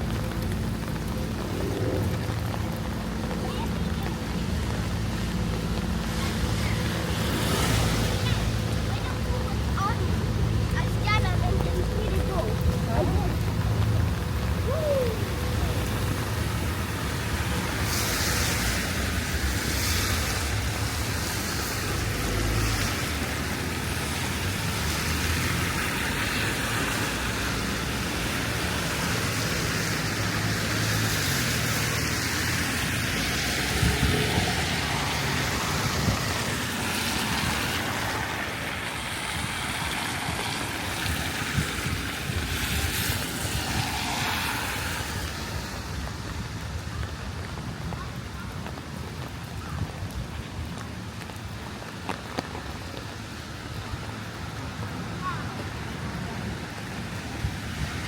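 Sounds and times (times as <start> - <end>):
steady rain: 0.0 - 58.0
traffic engine rumble: 0.0 - 58.0
tyres hissing on wet road: 0.0 - 58.0.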